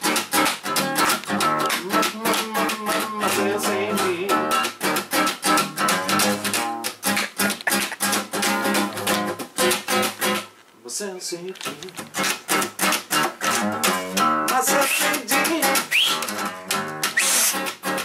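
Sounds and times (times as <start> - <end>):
acoustic guitar strumming: 0.0 - 10.6, 11.7 - 18.0.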